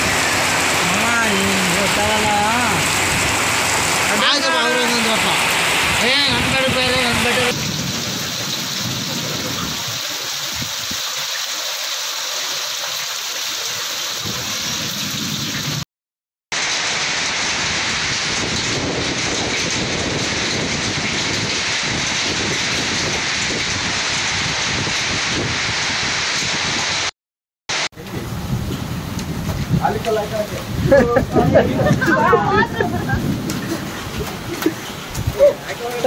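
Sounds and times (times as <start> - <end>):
heavy rain pouring: 0.0 - 15.8, 16.5 - 27.1, 27.7 - 36.0.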